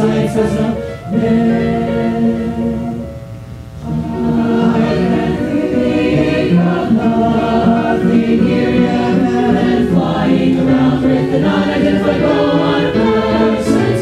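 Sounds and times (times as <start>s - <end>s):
mixed choir singing: 0.0s - 3.1s, 3.8s - 14.0s.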